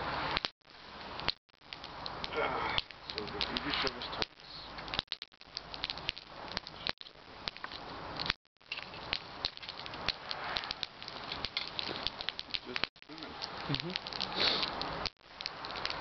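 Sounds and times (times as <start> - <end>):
campfire hissing: 0.0 - 16.0
burning wood popping and snapping: 0.2 - 16.0.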